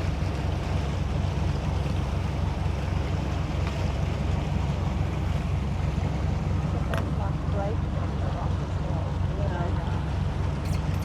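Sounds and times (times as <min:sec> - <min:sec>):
boat engine droning: 0:00.0 - 0:11.0
rushing water: 0:00.0 - 0:11.0
wind: 0:00.0 - 0:11.0.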